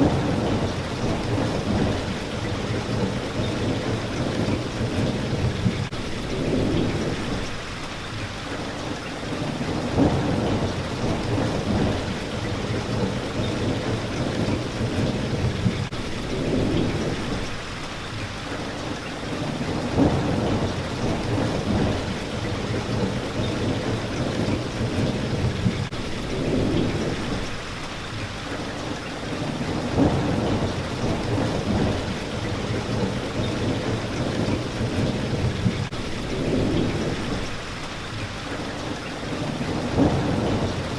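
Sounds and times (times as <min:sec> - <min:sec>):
rolling thunder: 0:00.0 - 0:07.5, 0:09.4 - 0:17.5, 0:19.3 - 0:27.6, 0:29.3 - 0:37.6, 0:39.3 - 0:40.9
rain on a window: 0:00.0 - 0:40.9.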